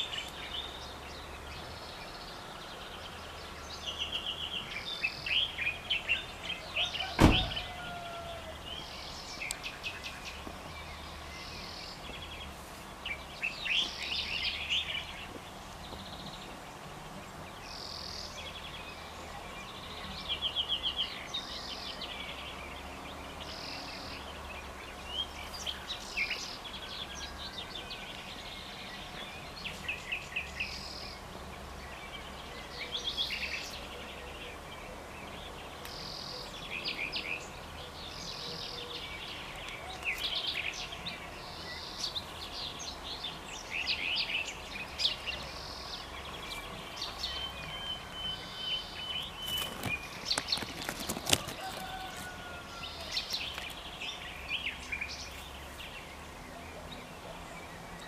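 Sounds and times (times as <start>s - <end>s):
songbirds singing and trilling: 0.0s - 58.0s.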